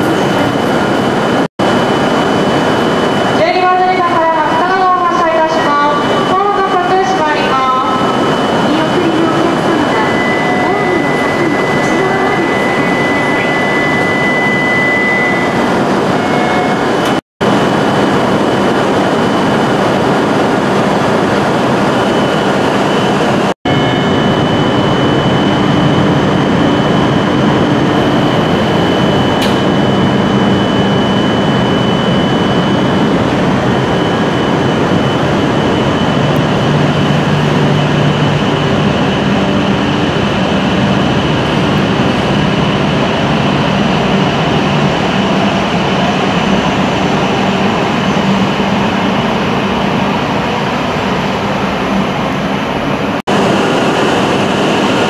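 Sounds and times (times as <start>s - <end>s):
high tone: 0.0s - 17.2s, 21.9s - 49.6s
high-speed train running noise: 0.0s - 55.0s
steady hum tones: 0.0s - 55.0s.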